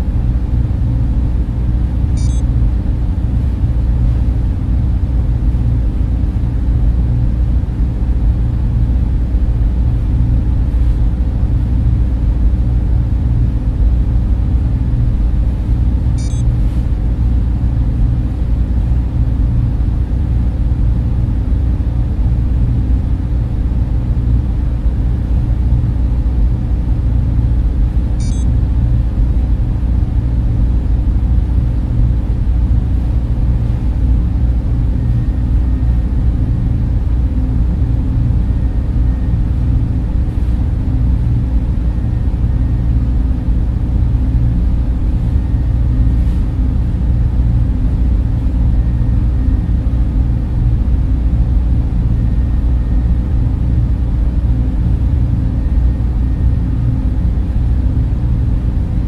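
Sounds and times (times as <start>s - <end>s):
cooling fans rushing hum: 0.0s - 59.0s
faint whine tones: 0.0s - 59.0s.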